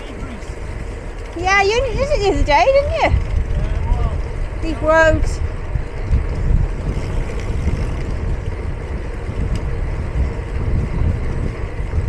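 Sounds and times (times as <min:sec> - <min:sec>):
bicycle road noise: 0:00.0 - 0:12.0
wind rumble on microphone: 0:00.0 - 0:12.0.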